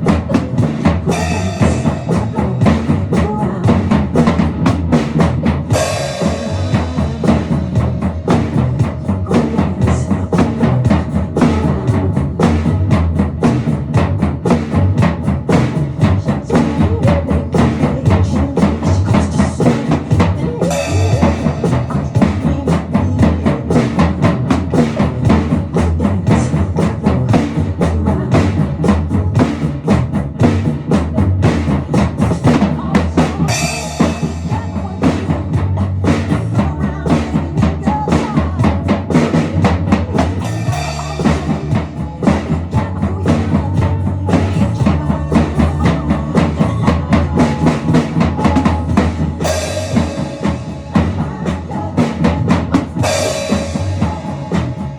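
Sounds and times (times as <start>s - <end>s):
drum kit beat: 0.0s - 54.9s.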